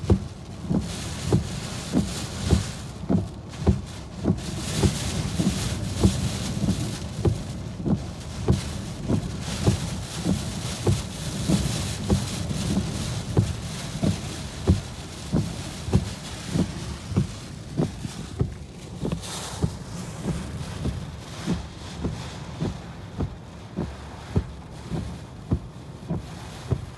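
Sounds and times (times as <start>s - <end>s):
heavy rain on a car: 0.0s - 26.9s.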